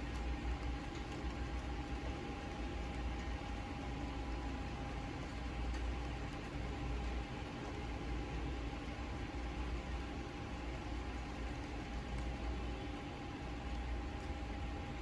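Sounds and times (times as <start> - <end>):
low mechanical hum: 0.0 - 15.0
raindrops ticking: 0.0 - 15.0
steady rain hiss: 0.0 - 15.0.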